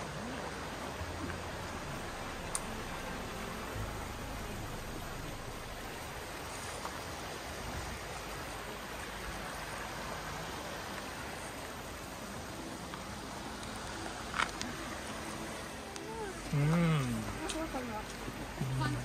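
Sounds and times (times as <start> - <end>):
stream running over rocks: 0.0 - 19.0.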